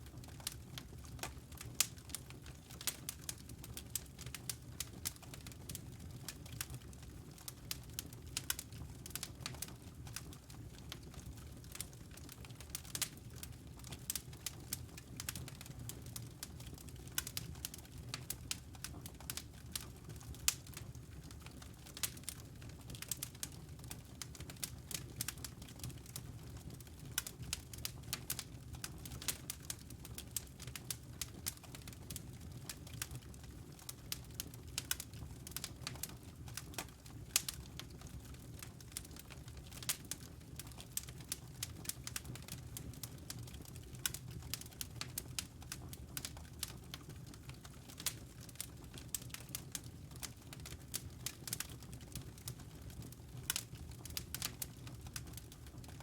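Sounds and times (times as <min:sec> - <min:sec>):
burning logs crackling: 0:00.0 - 0:56.0.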